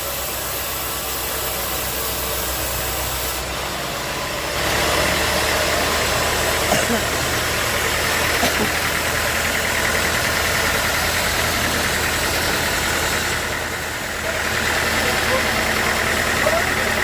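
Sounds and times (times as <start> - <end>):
sawmill engine drone: 0.0 - 17.0
steady machine whine: 0.0 - 17.0.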